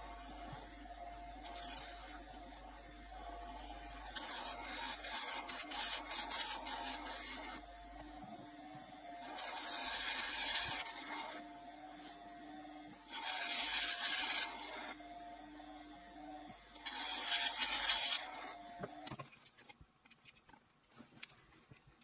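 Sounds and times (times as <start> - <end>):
cutting tool hissing and scraping: 0.0 - 15.9, 16.6 - 19.1
lathe spindle hum: 0.0 - 19.1.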